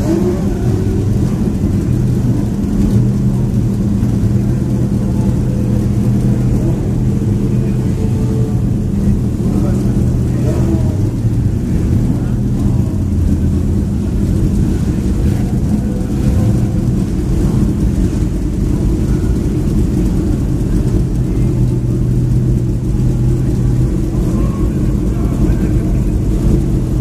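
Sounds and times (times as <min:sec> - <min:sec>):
background voices: 0:00.0 - 0:27.0
racing car engine running: 0:00.0 - 0:27.0.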